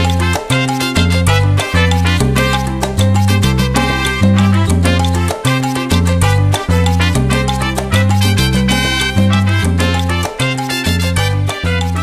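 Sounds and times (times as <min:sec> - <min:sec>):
upbeat salsa music: 0:00.0 - 0:12.0.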